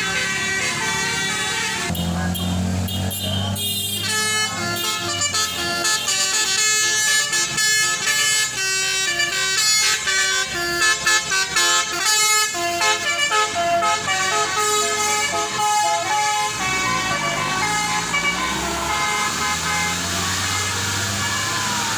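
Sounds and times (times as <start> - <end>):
low engine rumble: 0.0 - 8.1, 11.4 - 21.9
musical air horn playing a tune: 0.0 - 21.9.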